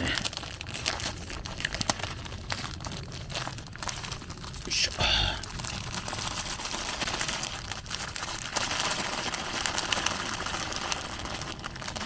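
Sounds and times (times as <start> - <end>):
plastic food packaging crinkling: 0.0 - 4.6, 6.1 - 12.0.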